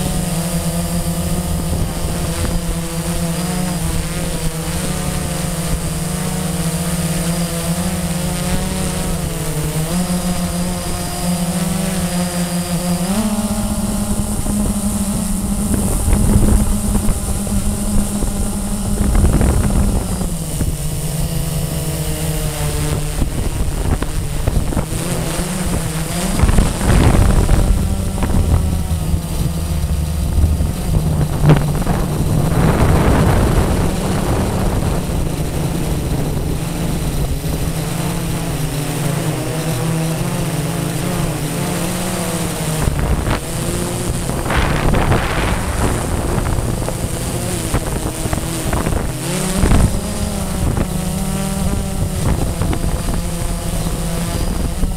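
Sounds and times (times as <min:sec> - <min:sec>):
quadcopter motors humming: 0:00.0 - 0:54.9
wind buffeting microphone: 0:00.0 - 0:54.9.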